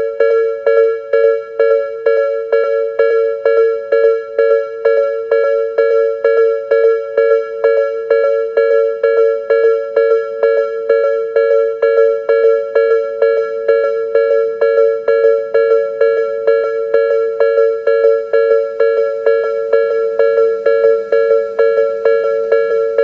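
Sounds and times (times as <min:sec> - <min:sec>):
level crossing warning bell: 0:00.0 - 0:23.0.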